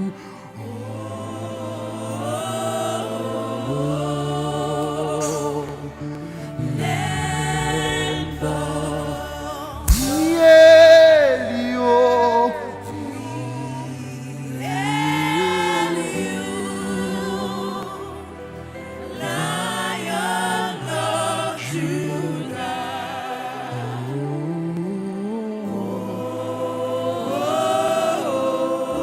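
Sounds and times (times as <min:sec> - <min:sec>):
gospel singing: 0:00.0 - 0:29.0.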